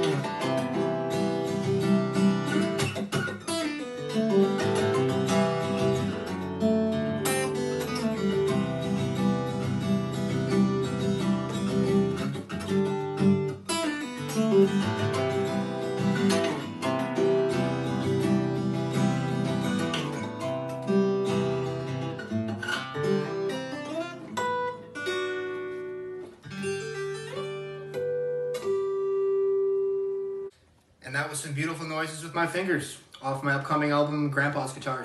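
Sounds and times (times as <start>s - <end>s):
fingerpicked acoustic guitar: 0.0s - 30.7s.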